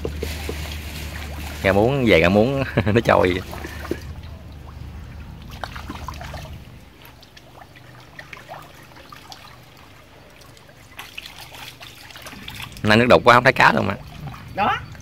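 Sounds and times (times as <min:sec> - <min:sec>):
small drips and splashes: 0:00.0 - 0:15.0
water trickling into pond: 0:00.0 - 0:15.0.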